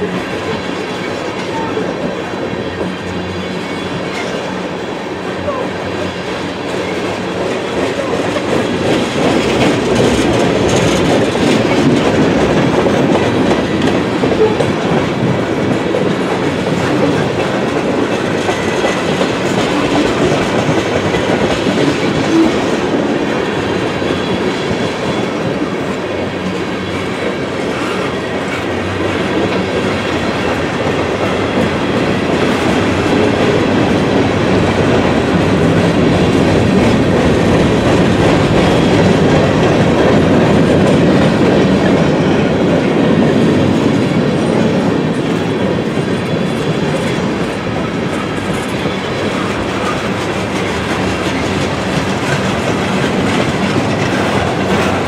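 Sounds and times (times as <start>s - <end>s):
freight train rolling past: 0.0s - 55.0s
steel wheels on rails: 0.0s - 55.0s.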